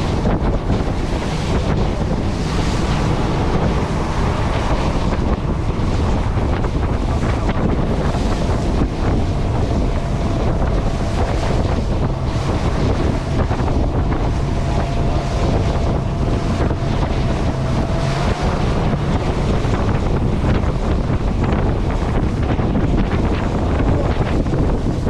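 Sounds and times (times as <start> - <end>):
hull thudding on waves: 0.0 - 25.0
outboard engine hum: 0.0 - 25.0
wind buffeting microphone: 0.0 - 25.0.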